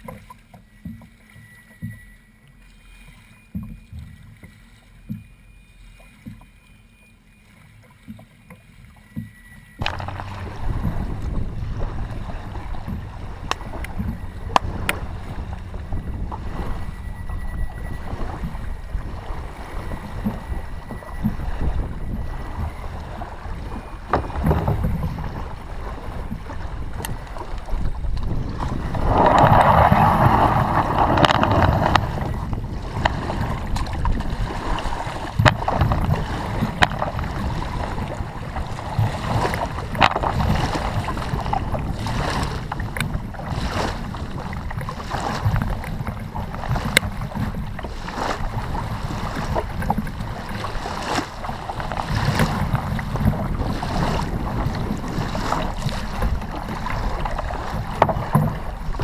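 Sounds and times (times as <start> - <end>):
water lapping: 0.0 - 59.0
kayak knocks and clicks: 8.0 - 59.0
wind rumbling on microphone: 9.8 - 59.0.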